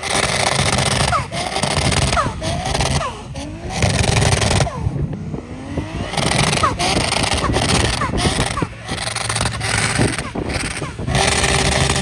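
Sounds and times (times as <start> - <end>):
car engine revving hard: 0.0 - 12.0
sharp exhaust cracks: 0.0 - 12.0.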